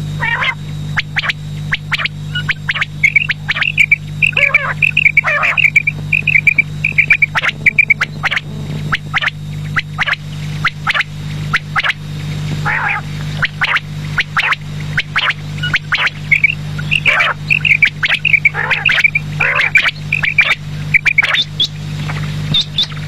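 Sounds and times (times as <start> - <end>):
low hum: 0.0 - 23.0
quail calling: 0.2 - 23.0.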